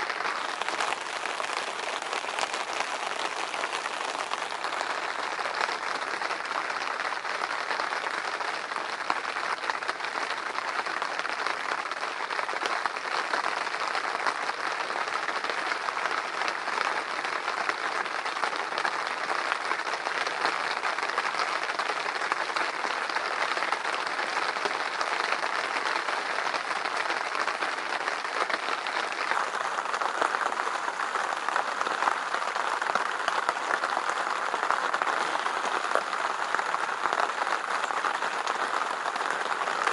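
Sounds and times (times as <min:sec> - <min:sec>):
heavy rain beating on a blind: 0:00.0 - 0:39.9.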